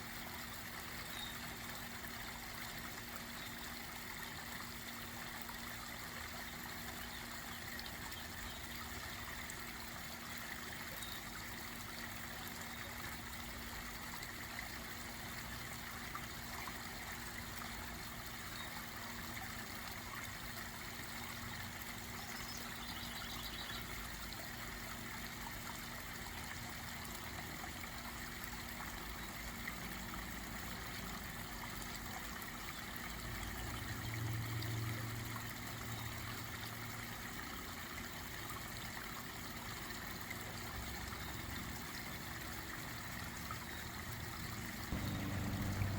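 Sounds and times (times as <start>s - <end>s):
pond waterfall trickling: 0.0s - 45.9s.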